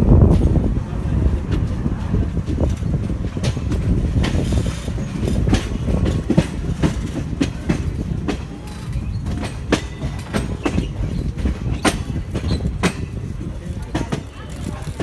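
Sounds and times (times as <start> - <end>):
train low rumble: 0.0 - 15.0
wheels clacking over rail joints: 0.0 - 15.0.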